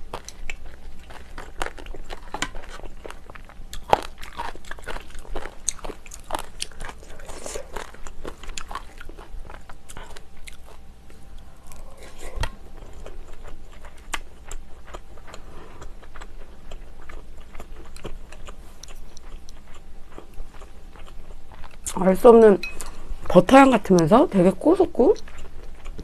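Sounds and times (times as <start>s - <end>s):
person chewing food: 0.0s - 21.9s, 25.1s - 26.0s.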